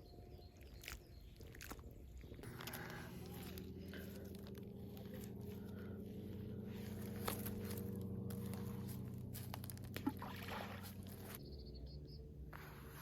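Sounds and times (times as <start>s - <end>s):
low engine drone: 2.2s - 13.0s.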